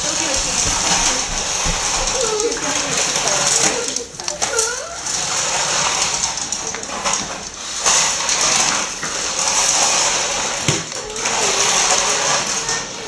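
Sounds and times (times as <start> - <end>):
toy car motor whirring: 0.0 - 13.0.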